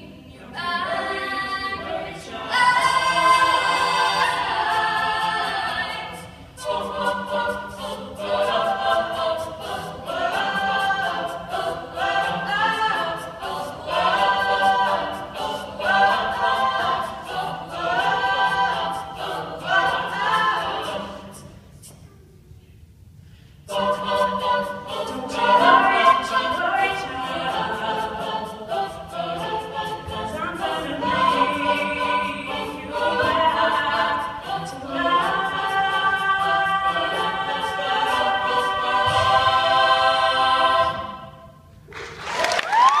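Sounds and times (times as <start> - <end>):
choir singing a cappella: 0.0 - 21.9, 23.4 - 41.8.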